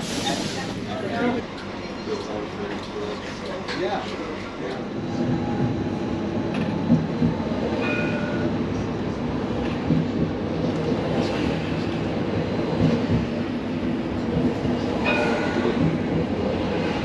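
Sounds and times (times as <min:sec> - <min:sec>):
tram rolling rumble: 0:00.0 - 0:17.0.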